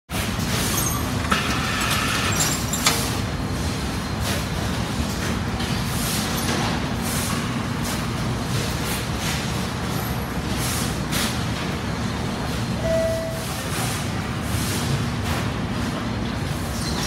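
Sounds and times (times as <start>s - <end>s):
industrial machinery humming: 0.1s - 17.0s.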